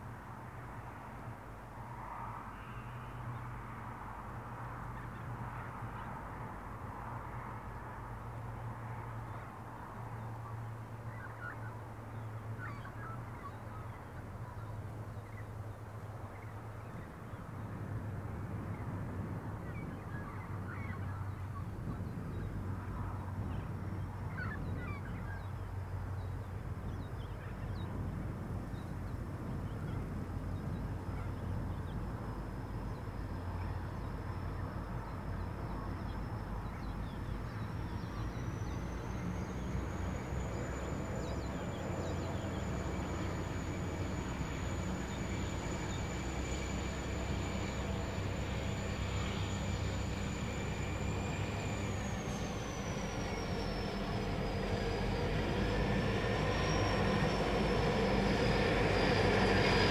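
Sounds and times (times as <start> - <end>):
distant locomotive engine drone: 0.0 - 59.9.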